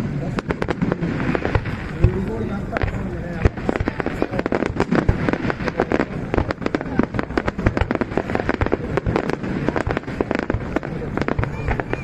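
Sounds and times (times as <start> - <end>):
fireworks bangs and cracks: 0.0 - 12.0
fireworks crackle: 0.0 - 12.0.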